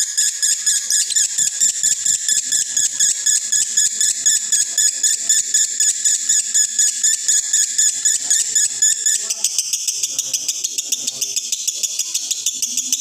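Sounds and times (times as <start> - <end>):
lovebird chattering: 0.0 - 13.0.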